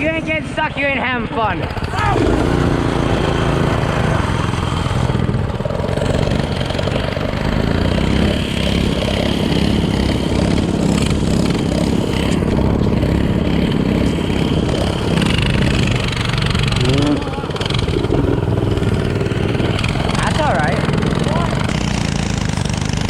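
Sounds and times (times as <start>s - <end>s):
mini bike engine running: 0.0s - 23.0s.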